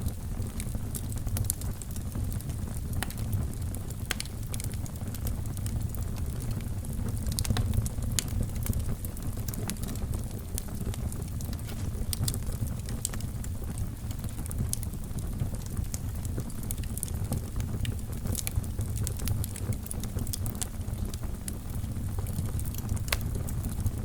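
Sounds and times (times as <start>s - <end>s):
fire crackling in fireplace: 0.0s - 24.0s.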